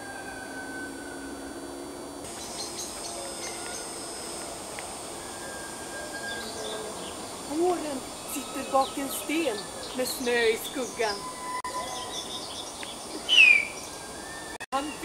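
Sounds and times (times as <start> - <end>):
steady background hiss: 0.1 - 15.0.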